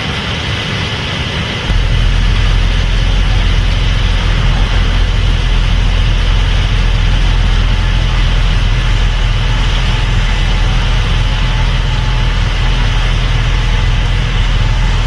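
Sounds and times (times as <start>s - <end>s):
combine harvester engine drone: 0.0s - 15.0s
mechanical hiss: 1.7s - 15.0s.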